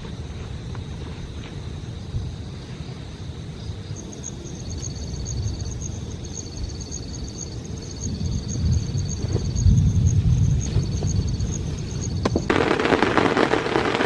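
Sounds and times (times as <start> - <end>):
insect trill: 0.0 - 14.0
insects chirping: 0.0 - 14.0
rain: 0.0 - 14.0
wind: 0.0 - 14.0.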